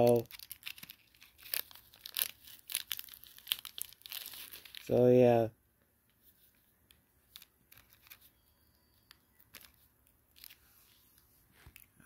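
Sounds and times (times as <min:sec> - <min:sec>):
faint clicks and crackles: 0:00.0 - 0:05.0, 0:06.0 - 0:12.0.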